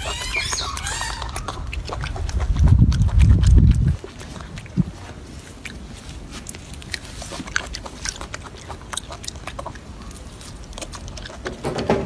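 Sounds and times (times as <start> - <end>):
monkey chewing fruit: 0.0 - 12.0.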